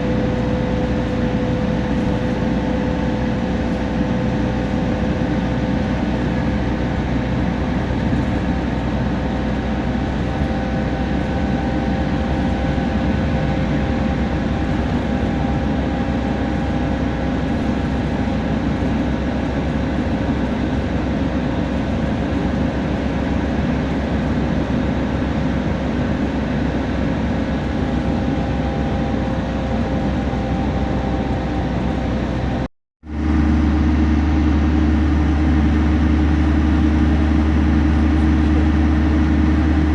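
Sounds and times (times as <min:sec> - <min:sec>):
bus engine running: 0:00.0 - 0:39.9
deep steady hum: 0:00.0 - 0:39.9.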